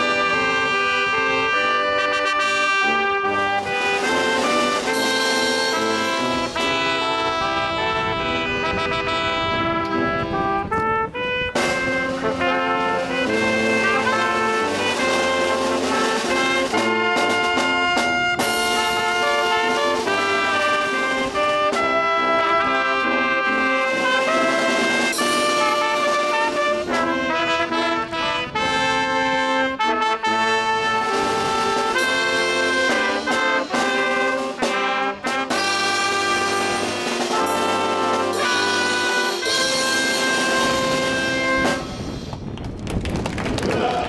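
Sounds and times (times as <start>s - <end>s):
brass music: 0.0s - 42.5s.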